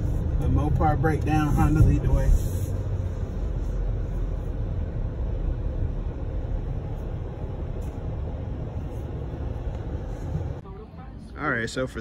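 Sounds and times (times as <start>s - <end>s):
tyres rolling on road: 0.0s - 10.6s
car engine rumble: 0.0s - 12.0s.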